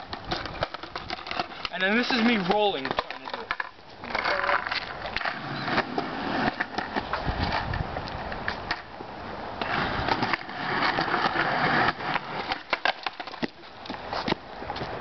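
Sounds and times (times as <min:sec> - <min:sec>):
skateboard clicks and clacks: 0:00.0 - 0:08.9, 0:09.6 - 0:15.0
skateboard wheels rolling on concrete: 0:00.0 - 0:15.0.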